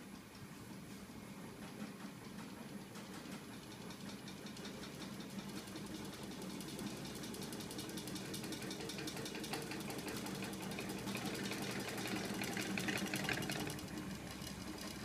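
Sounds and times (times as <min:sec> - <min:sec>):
rattling ticking of moving arms: 0:00.0 - 0:15.0.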